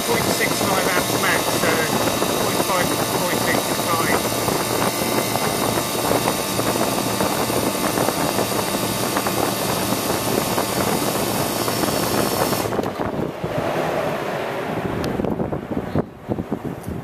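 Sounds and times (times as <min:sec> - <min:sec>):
fan motor drone: 0:00.0 - 0:17.0
rush of air: 0:00.0 - 0:17.0.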